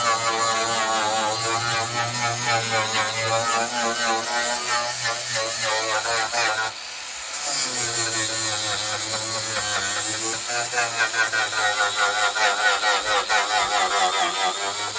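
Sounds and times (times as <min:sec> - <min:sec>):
small electric power tool running: 0:00.0 - 0:14.9.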